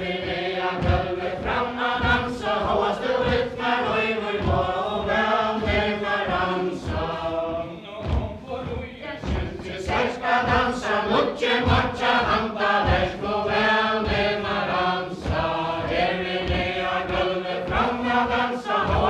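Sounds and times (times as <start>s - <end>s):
feet thudding on wooden floor: 0.0s - 19.0s
group singing unaccompanied: 0.0s - 19.0s.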